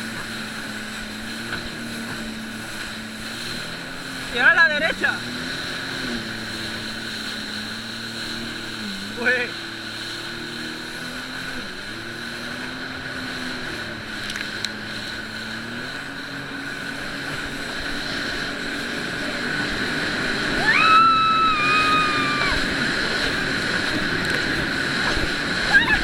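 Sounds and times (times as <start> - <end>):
jet ski engine running: 0.0 - 26.0
wind and water noise: 0.0 - 26.0.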